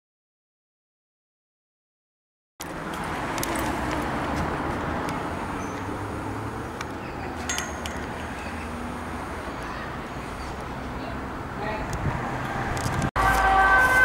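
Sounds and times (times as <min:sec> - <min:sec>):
road traffic noise: 0:02.6 - 0:14.0.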